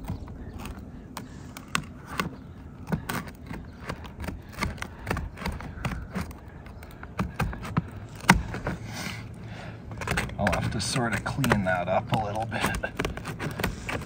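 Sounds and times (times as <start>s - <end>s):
tin snips cutting shingle: 0.0s - 14.0s.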